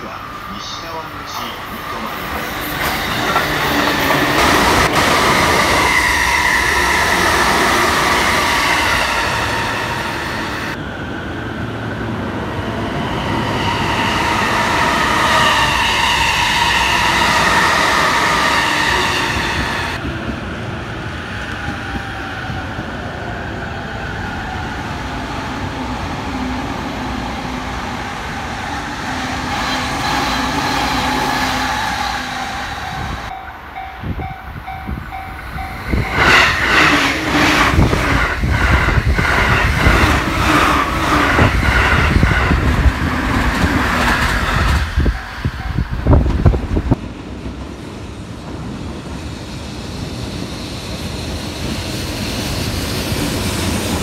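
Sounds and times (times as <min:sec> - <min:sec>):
electric trains running past: 0:00.0 - 0:54.0
wheels rumbling on rails: 0:02.0 - 0:54.0.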